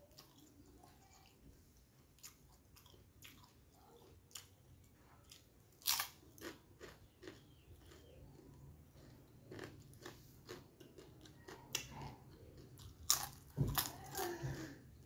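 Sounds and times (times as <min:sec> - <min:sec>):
crunchy chewing and biting: 0:02.2 - 0:14.4.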